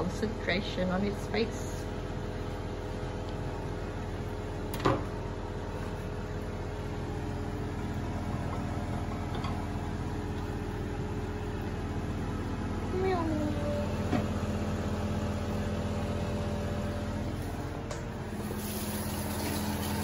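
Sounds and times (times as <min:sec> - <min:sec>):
extractor hood fan hum: 0:00.0 - 0:20.0.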